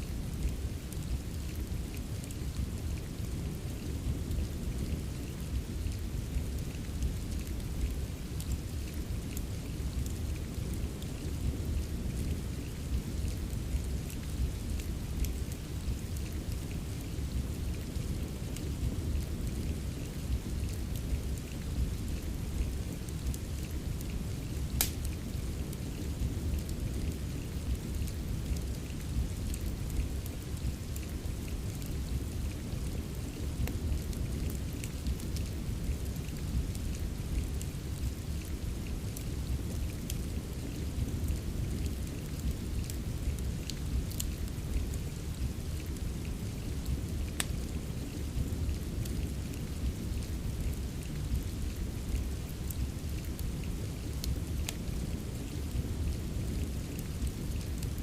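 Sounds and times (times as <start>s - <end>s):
steady rain: 0.0s - 58.0s
fireplace crackling: 0.2s - 57.6s.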